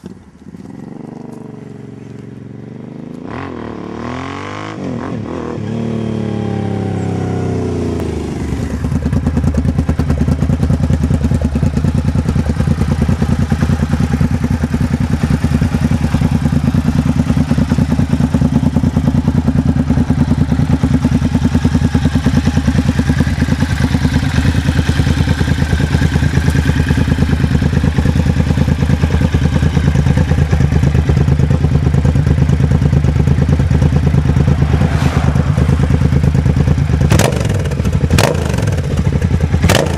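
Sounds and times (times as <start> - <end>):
motorcycle engine idling loudly: 6.7 - 39.9.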